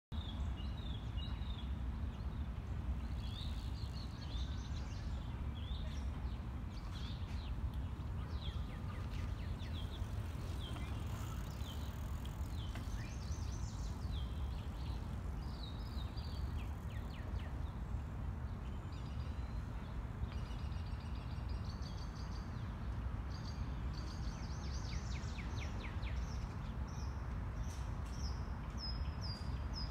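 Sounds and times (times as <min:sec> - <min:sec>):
songbirds chirping and trilling: 0:00.1 - 0:29.9.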